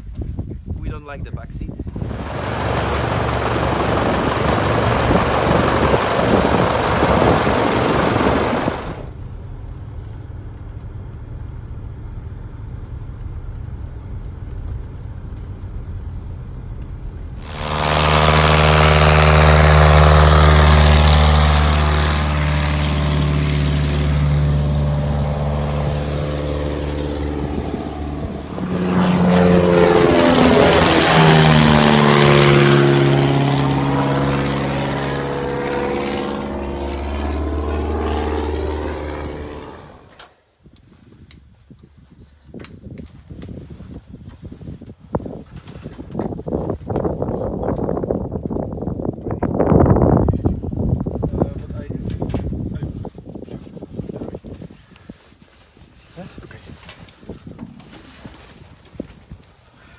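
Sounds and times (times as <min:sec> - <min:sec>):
light aircraft engine and propeller: 0:00.9 - 0:59.9.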